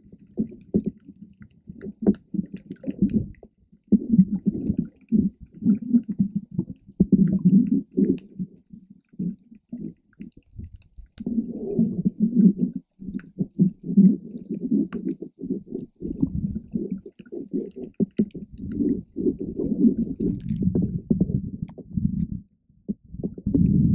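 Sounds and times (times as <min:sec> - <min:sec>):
underwater rumbling and sloshing: 0:00.0 - 0:23.9.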